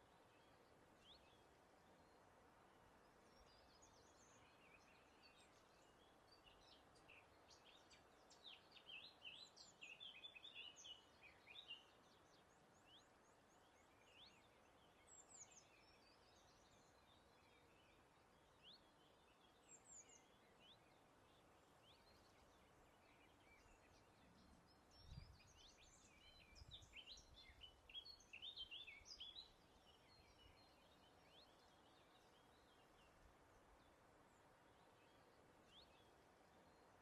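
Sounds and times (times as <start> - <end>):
soft steady hiss: 0.0 - 37.0
songbirds singing and chirping: 0.0 - 37.0.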